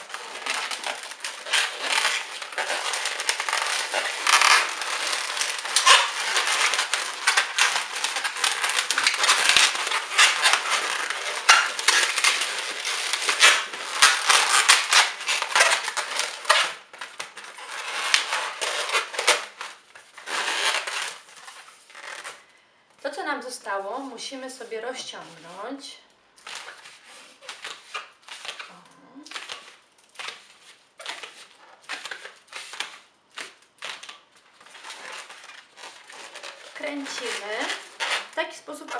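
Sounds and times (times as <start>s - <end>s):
rubber balloon squeaking: 0.0s - 22.5s, 26.4s - 38.9s.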